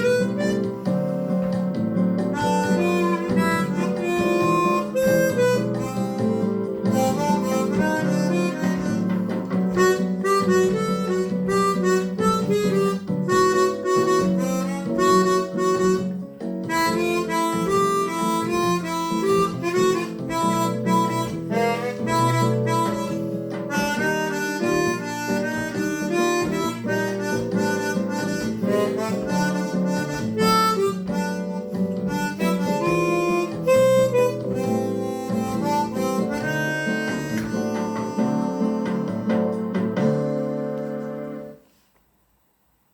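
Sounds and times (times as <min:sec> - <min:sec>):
harmonica melody: 0:00.0 - 0:41.6
guitar accompaniment: 0:00.0 - 0:41.7.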